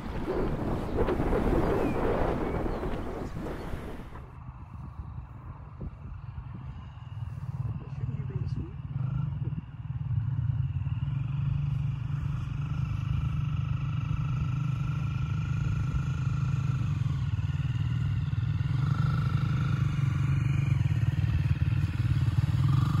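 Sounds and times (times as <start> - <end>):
dirt bike engines: 0.0 - 23.0.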